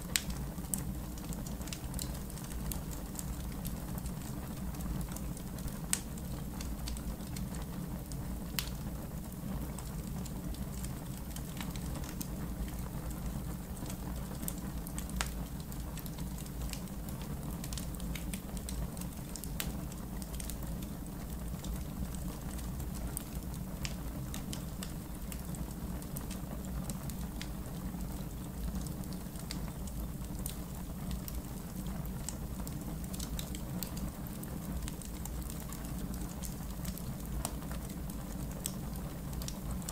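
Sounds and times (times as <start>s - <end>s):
campfire crackling and popping: 0.0s - 39.9s
low rumble of burning fire: 0.0s - 39.9s.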